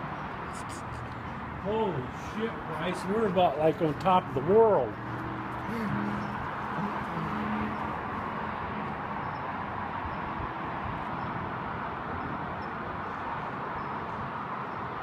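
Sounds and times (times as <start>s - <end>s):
steady outdoor rushing ambience: 0.0s - 15.0s.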